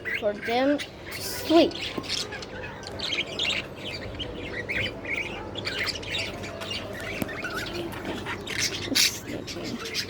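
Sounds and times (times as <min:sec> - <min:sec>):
budgerigars chirping: 0:00.0 - 0:10.0.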